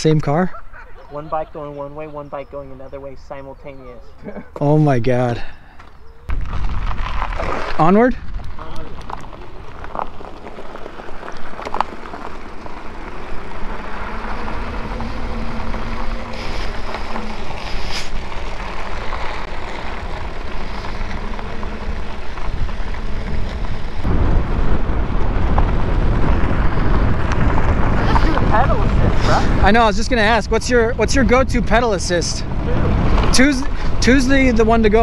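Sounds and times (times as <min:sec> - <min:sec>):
road noise: 0:00.0 - 0:35.0
wind buffeting microphone: 0:05.9 - 0:35.0.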